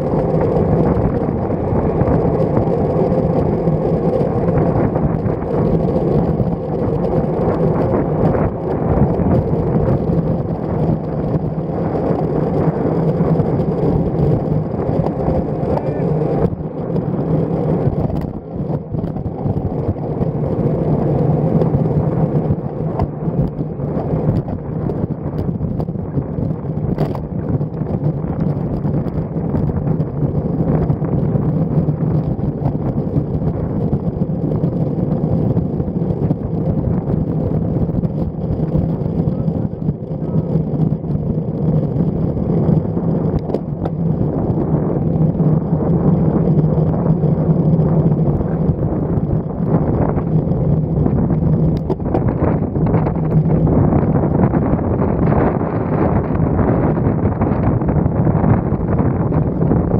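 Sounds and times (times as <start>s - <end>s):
constant low hum: 0.0s - 59.9s
road noise: 0.0s - 59.9s
wind rushing: 0.0s - 59.9s.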